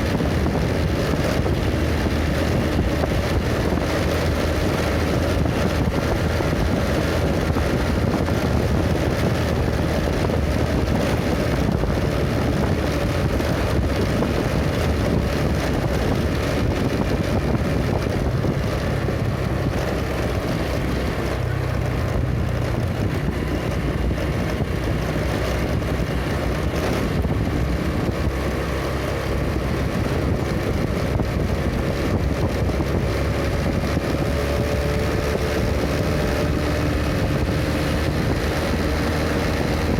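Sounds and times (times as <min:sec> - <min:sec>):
road rumble: 0:00.0 - 0:39.9
vehicle engine running: 0:00.0 - 0:39.9
wind buffeting microphone: 0:00.0 - 0:39.9.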